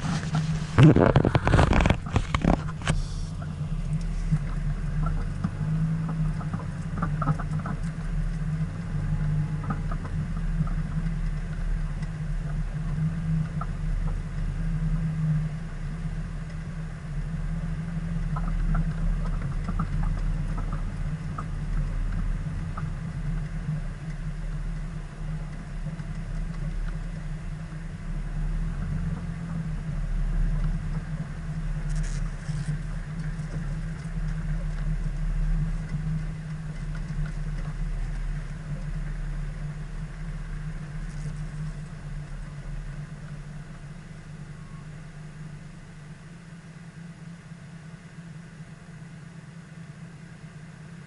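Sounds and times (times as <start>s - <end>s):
vehicle engine humming: 0.0s - 51.0s.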